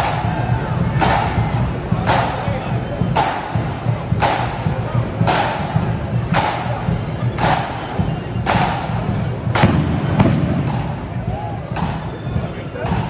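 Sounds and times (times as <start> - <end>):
bass drum beating: 0.0 - 13.0.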